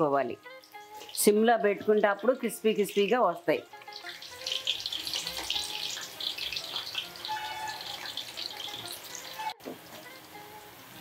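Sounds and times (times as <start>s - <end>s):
background music: 0.0s - 11.0s
oil sizzling in deep frying: 0.0s - 11.0s.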